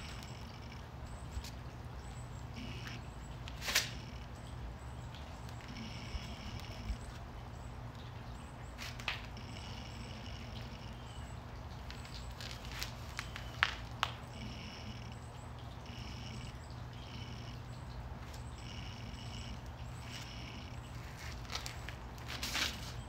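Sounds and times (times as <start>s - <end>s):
constant low hum: 0.0s - 23.0s.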